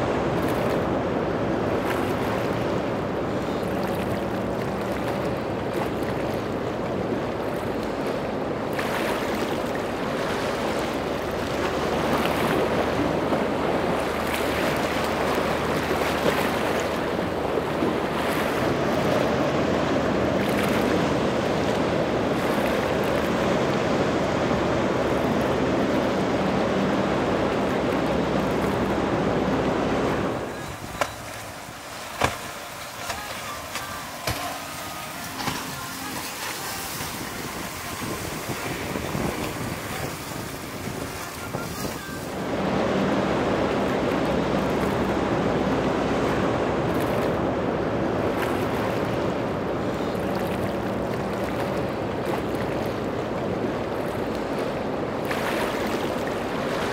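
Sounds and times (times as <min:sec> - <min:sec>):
sharp water splashes: 0:00.0 - 0:23.6, 0:25.0 - 0:42.5, 0:43.3 - 0:56.9
faint hum of boat engines: 0:00.0 - 0:56.9
waves and surf washing: 0:00.0 - 0:56.9
wind on microphone: 0:00.0 - 0:56.9.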